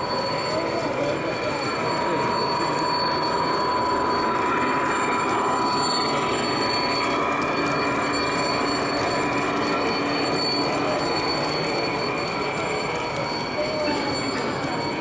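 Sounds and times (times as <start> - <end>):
high whining tones: 0.0 - 15.0
model train wheels rumbling: 0.0 - 15.0.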